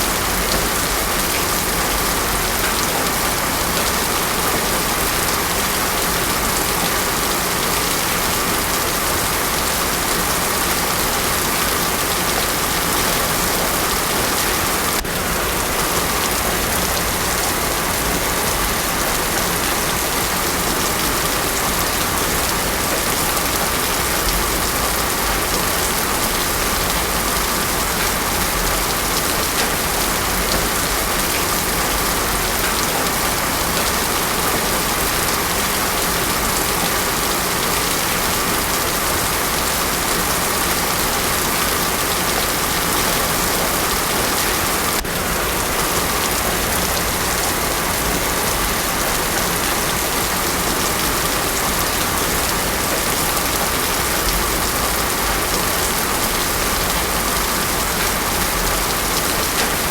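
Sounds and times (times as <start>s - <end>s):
heavy rain on road: 0.0s - 59.9s.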